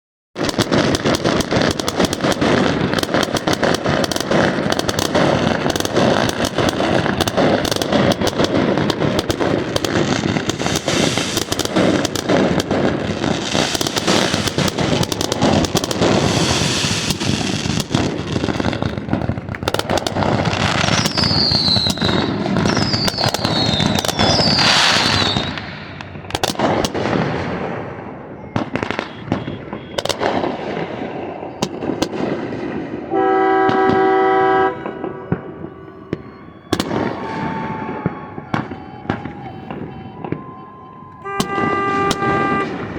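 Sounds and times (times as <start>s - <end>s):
falling firework whistles: 0.4s - 42.9s
fireworks banging and crackling: 0.4s - 42.9s.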